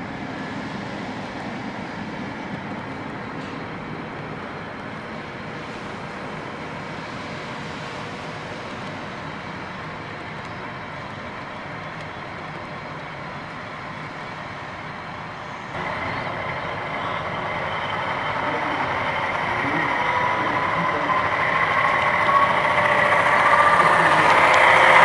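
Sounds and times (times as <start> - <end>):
model train wheels rumbling on rail: 0.0 - 25.0.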